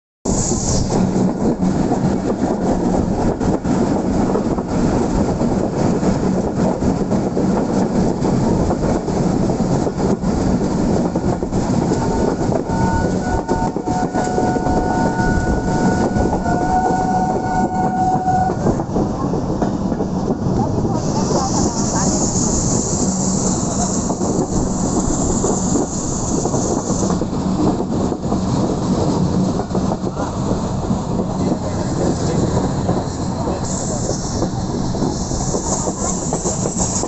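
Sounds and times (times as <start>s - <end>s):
train wheels rumbling and rattling: 0.3s - 37.0s.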